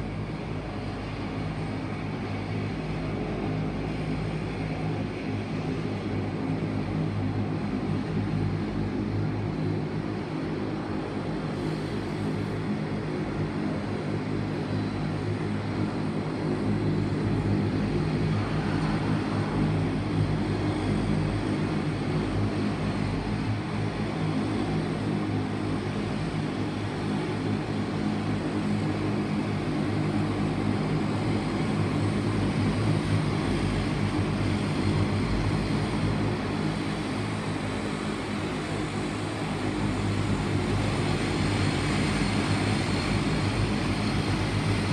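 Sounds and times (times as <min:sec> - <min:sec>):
turboprop engines droning: 0:00.0 - 0:44.9.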